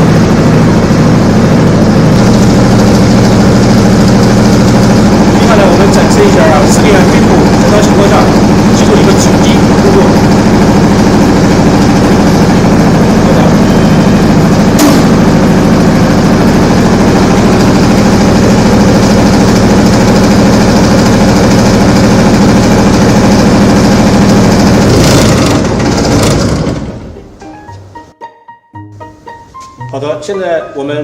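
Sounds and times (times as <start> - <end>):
diesel generator running: 0.0 - 27.9.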